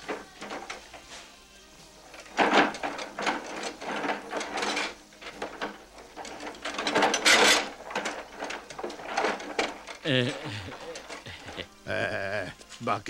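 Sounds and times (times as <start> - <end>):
mop wringer rattling and creaking: 0.0 - 11.8.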